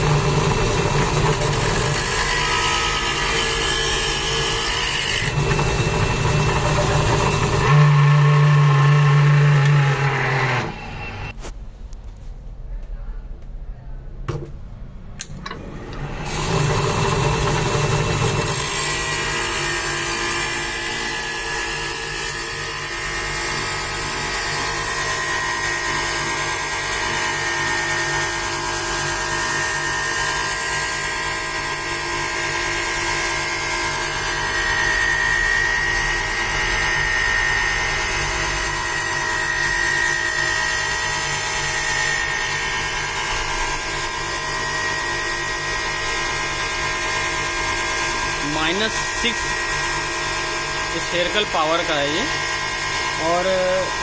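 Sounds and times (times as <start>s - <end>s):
lens edger grinding with high whine: 0.0s - 11.4s, 15.5s - 54.0s.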